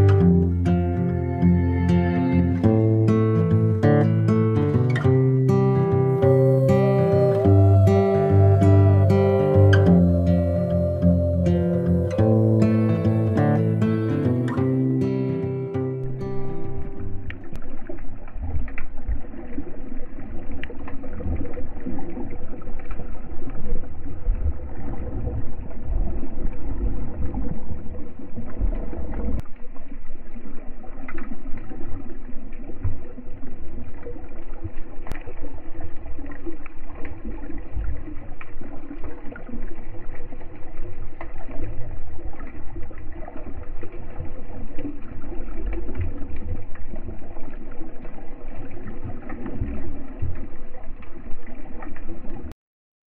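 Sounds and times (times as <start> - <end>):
underwater water sloshing and gurgling: 0.0 - 52.5.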